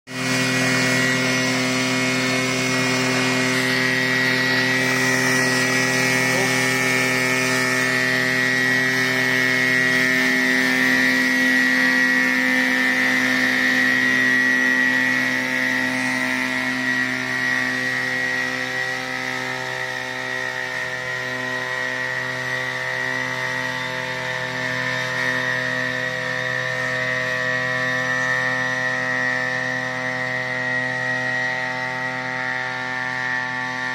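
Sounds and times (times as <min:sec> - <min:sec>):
drone whining: 0:00.1 - 0:33.9.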